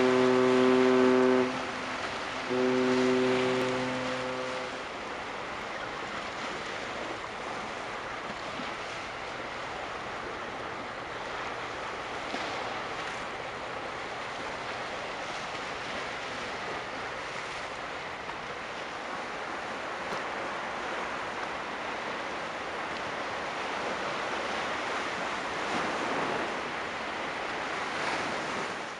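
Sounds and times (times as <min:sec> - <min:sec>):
waves washing: 0:00.0 - 0:28.9
wind: 0:00.0 - 0:28.9.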